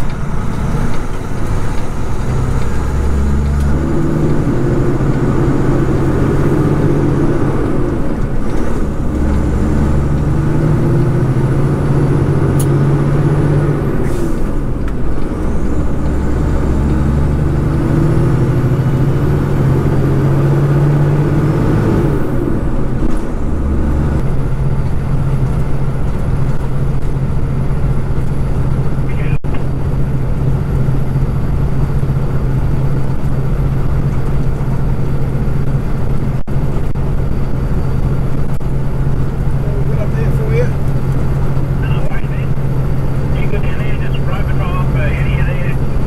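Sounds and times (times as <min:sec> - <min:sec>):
truck diesel engine pulling hard: 0:00.0 - 0:46.0.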